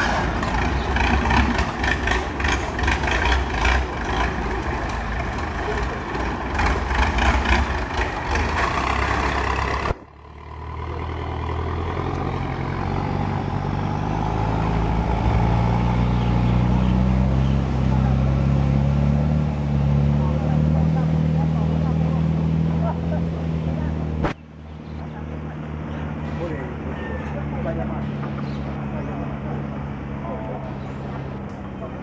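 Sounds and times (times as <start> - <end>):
loud boat engine: 0.0 - 24.3, 25.0 - 32.0
engine drone rising in pitch: 0.0 - 32.0.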